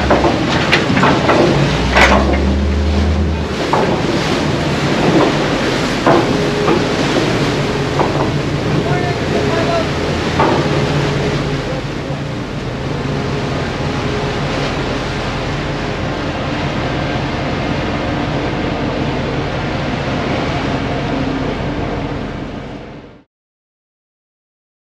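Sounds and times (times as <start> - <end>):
boat engines running: 0.0 - 23.3
water rushing and churning: 0.0 - 23.3.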